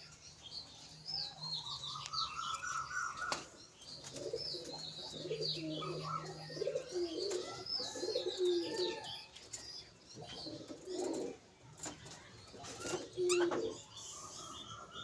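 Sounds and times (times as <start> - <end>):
caged birds calling: 0.0 - 15.0.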